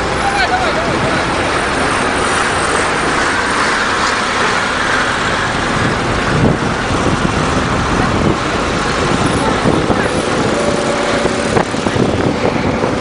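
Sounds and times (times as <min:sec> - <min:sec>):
heavy trucks running: 0:00.0 - 0:13.0.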